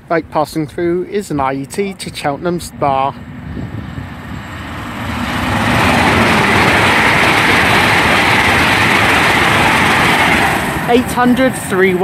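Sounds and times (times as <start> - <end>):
train passing at speed: 1.1 - 12.0.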